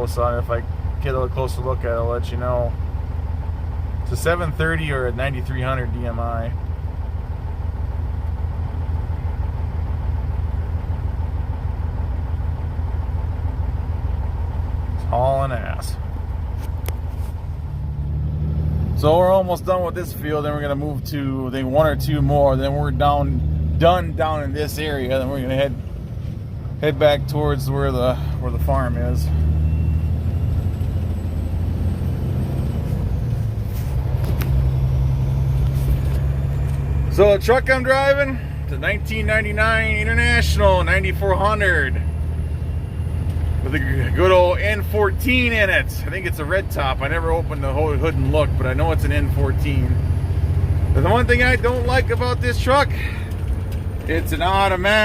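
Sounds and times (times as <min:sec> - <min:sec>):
diesel truck engine drone: 0:00.0 - 0:55.0.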